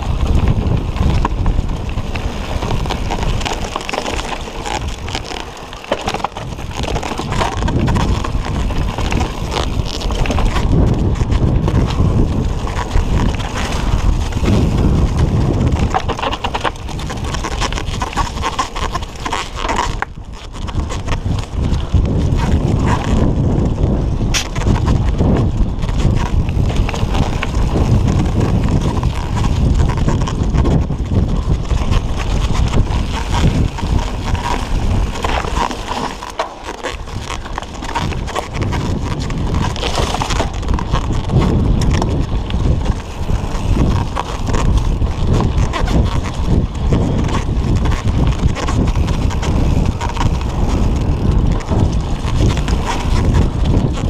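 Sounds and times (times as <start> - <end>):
bike rattling over bumps: 0.0 - 54.0
bike tyres rumbling on dirt: 0.0 - 54.0
wind buffeting microphone: 0.0 - 54.0.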